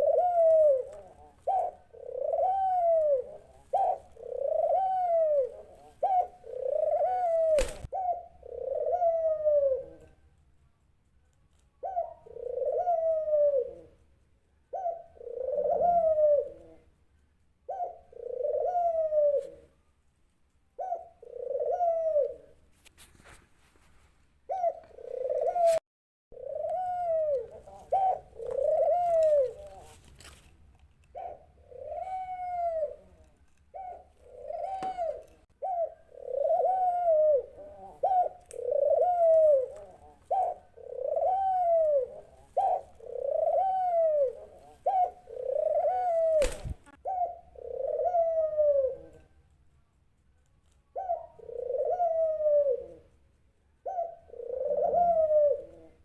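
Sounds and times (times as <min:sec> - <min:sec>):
dove cooing: 0:00.0 - 0:10.2, 0:11.8 - 0:14.0, 0:14.7 - 0:16.9, 0:17.6 - 0:19.8, 0:20.8 - 0:22.6, 0:24.5 - 0:25.8, 0:26.4 - 0:30.4, 0:31.1 - 0:49.4, 0:50.9 - 0:53.2, 0:53.8 - 0:56.0.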